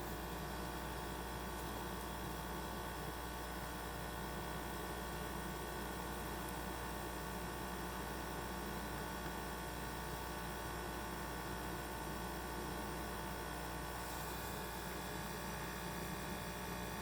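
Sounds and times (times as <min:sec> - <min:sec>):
refrigerator compressor humming: 0:00.0 - 0:17.0.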